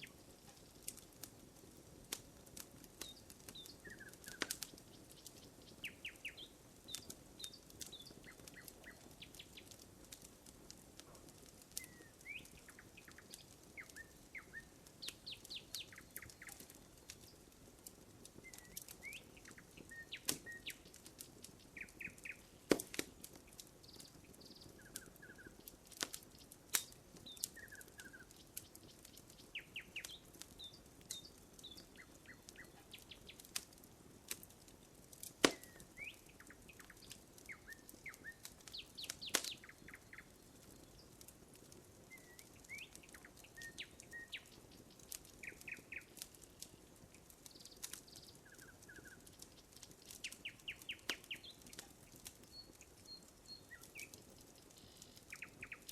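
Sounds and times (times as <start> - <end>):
campfire crackling and popping: 0.0 - 55.9
birds chirping: 2.8 - 10.1, 11.3 - 17.5, 18.3 - 33.6, 35.4 - 55.9.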